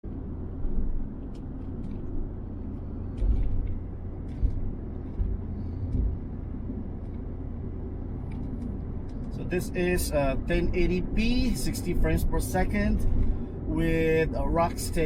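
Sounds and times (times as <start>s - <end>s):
city road traffic rumble: 0.0s - 15.0s.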